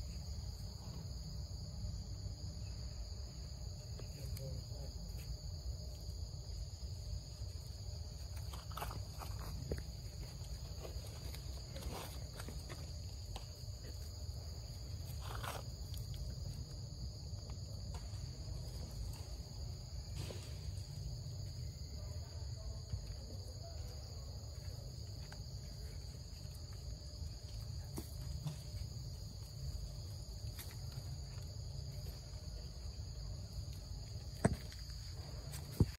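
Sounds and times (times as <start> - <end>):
insect chorus high tones: 0.0 - 35.9.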